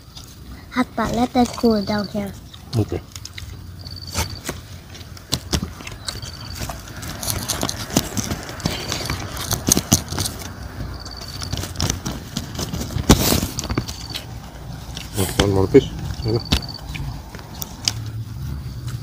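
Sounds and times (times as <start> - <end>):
chewing clicks: 1.3 - 15.2, 16.1 - 18.1.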